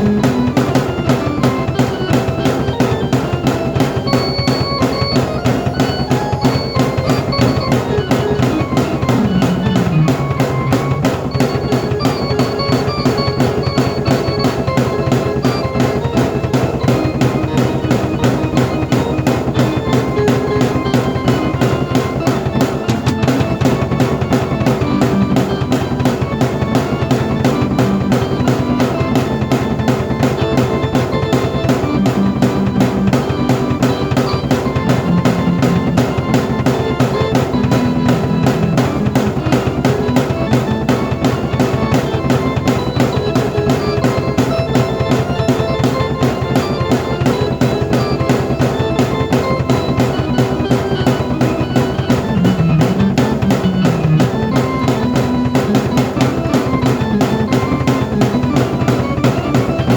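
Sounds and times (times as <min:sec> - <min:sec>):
fast drum beat: 0:00.0 - 0:59.9
keyboard chords: 0:00.0 - 0:59.9.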